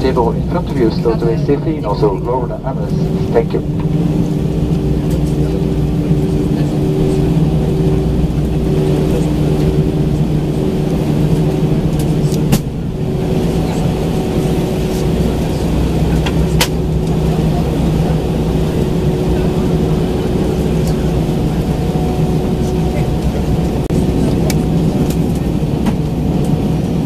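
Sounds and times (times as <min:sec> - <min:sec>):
jet engines droning: 0:00.0 - 0:27.0.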